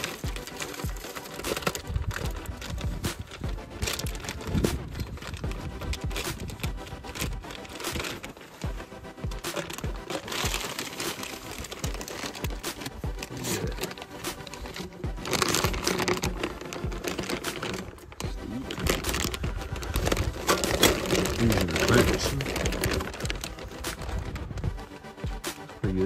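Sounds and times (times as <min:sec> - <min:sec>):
plastic wrap crinkling: 0:00.0 - 0:25.2.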